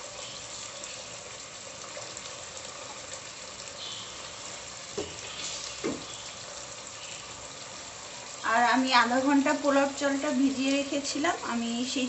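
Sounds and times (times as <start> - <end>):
gravy bubbling in a pan: 0.0 - 12.0.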